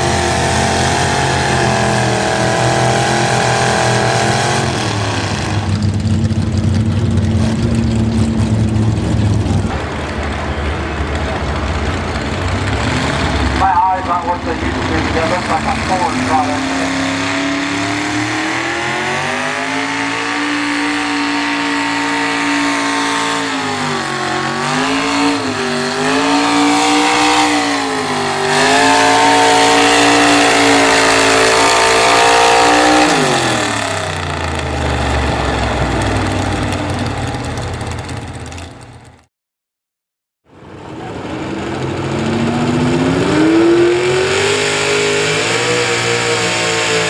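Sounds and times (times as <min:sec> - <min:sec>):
truck engine at high revs: 0:00.0 - 0:39.3, 0:40.5 - 0:47.0.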